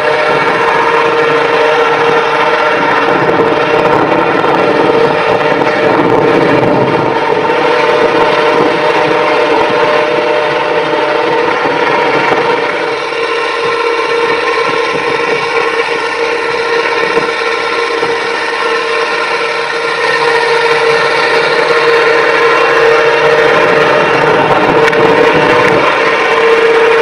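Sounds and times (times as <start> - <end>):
machine engine running: 0.0 - 27.0.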